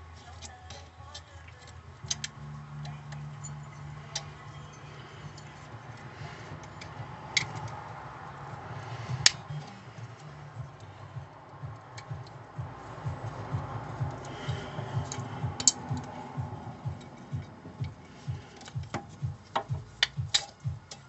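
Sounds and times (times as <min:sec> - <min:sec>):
low steady hum: 0:00.0 - 0:21.0
metallic clicks and clinks: 0:00.2 - 0:21.0.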